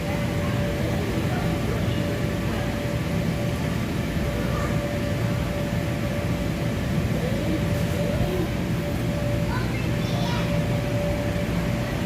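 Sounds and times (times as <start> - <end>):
blower fans roaring: 0.0 - 12.0.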